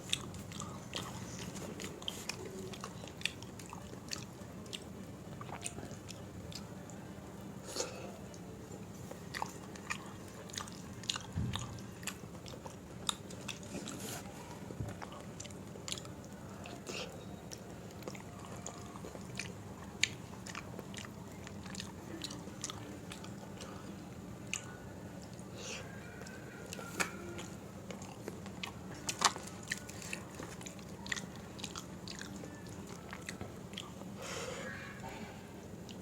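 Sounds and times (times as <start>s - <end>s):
person chewing and smacking: 0.0s - 6.7s, 9.0s - 34.1s.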